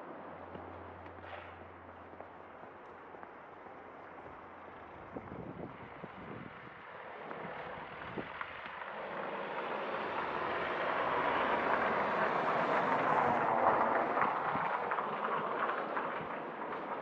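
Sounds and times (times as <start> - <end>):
vehicle road noise rushing: 0.0 - 17.0.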